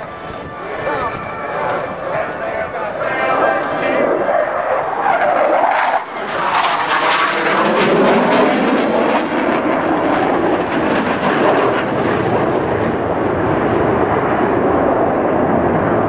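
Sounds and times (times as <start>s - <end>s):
jets roaring past: 0.0s - 16.0s.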